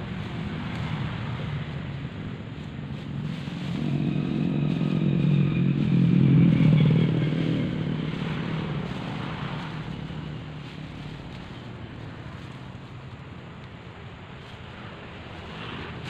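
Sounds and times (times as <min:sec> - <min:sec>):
vehicle engine passing by: 0:00.0 - 0:16.0.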